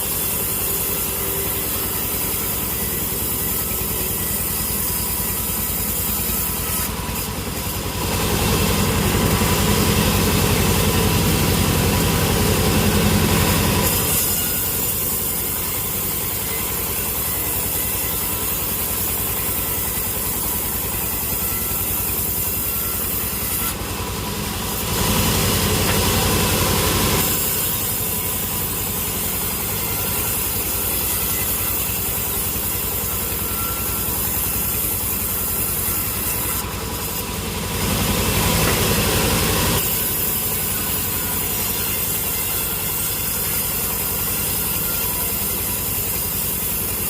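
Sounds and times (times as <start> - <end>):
sawmill machinery droning: 0.0 - 47.0.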